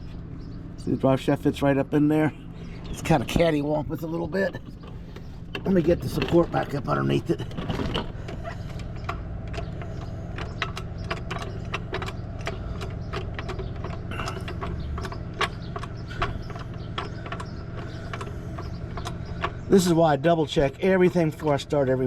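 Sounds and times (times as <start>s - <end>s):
steady low hum: 0.0s - 22.0s
metallic clicks and clanks: 2.8s - 22.0s.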